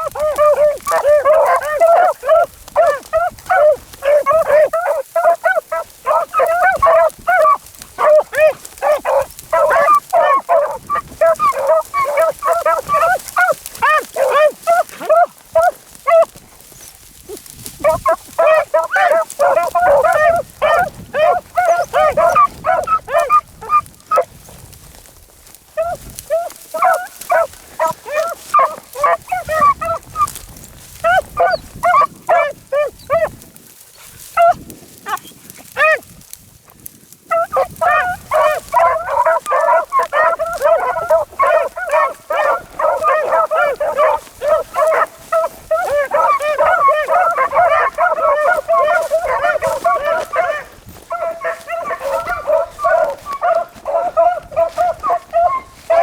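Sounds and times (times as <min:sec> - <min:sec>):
pack of dogs baying: 0:00.0 - 0:36.1, 0:37.3 - 0:56.0.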